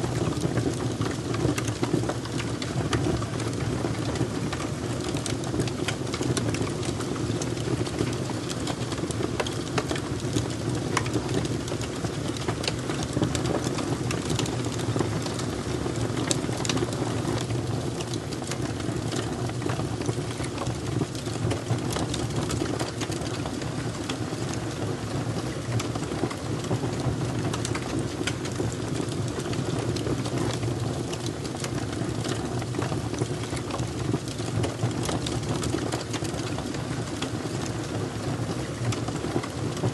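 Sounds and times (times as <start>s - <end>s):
fire crackling: 0.0s - 39.8s.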